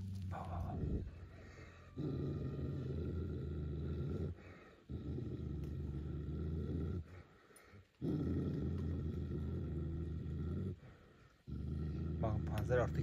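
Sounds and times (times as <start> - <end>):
dog growling low: 0.0 - 13.0.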